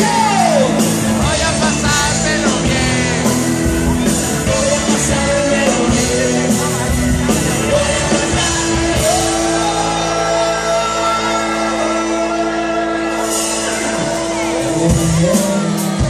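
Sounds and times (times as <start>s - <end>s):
drums: 0.0s - 16.0s
live pop-rock band: 0.0s - 16.0s
man singing lead vocals: 0.0s - 16.0s.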